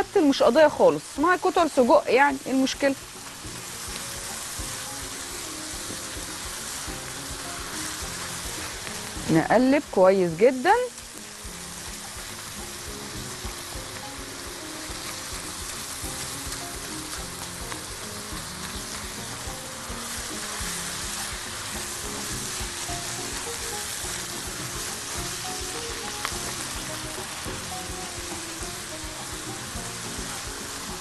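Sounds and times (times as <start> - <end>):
food sizzling in a frying pan: 0.0 - 31.0
soft background music: 0.0 - 31.0.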